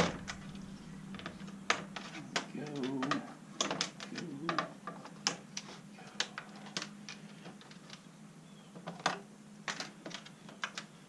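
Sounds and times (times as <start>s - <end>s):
wires snapping and clicking: 0.0s - 8.0s, 9.0s - 10.9s
steady low hum: 0.0s - 11.0s.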